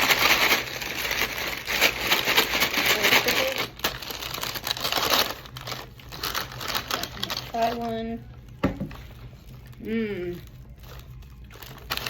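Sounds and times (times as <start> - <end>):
paper bag crinkling: 0.0 - 12.0.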